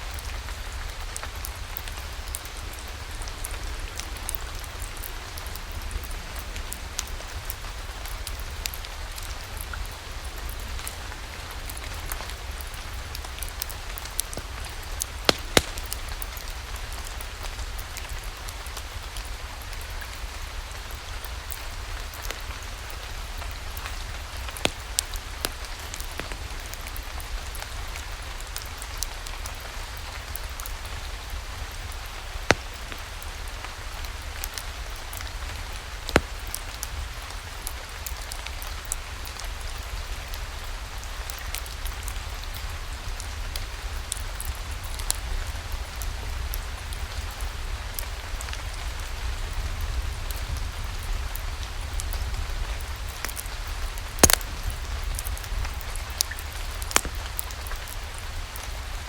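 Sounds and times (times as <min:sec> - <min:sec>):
rain falling: 0:00.0 - 0:59.0
wood fire crackling: 0:00.1 - 0:59.0.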